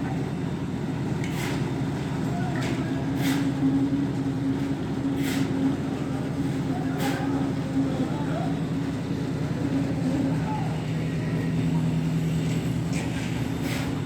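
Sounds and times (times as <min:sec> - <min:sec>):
concrete mixer engine drone: 0:00.0 - 0:14.0.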